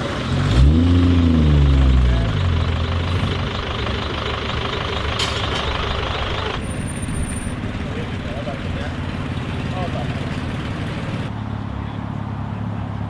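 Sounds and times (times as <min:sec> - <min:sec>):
car engine running: 0:00.0 - 0:11.4.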